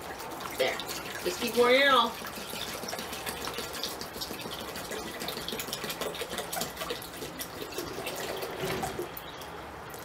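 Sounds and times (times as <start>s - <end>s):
liquid pouring into metal pot: 0.0s - 9.2s.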